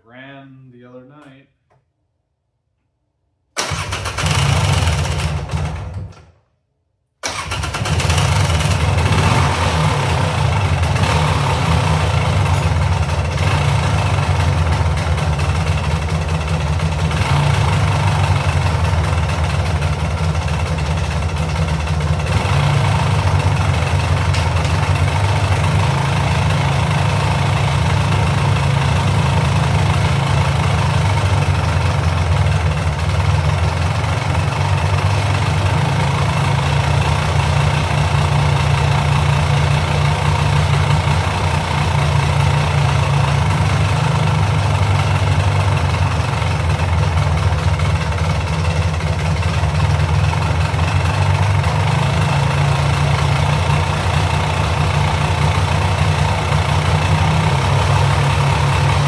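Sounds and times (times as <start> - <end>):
atv engine running: 3.7 - 6.1, 7.3 - 59.0.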